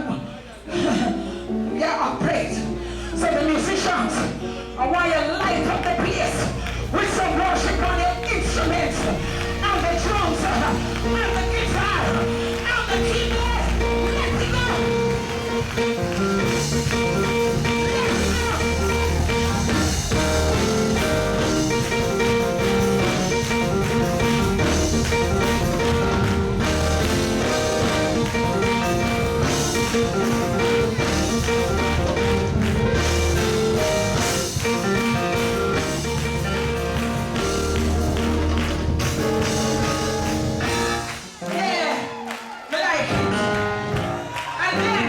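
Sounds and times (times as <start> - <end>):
band playing worship music: 0.0 - 45.0.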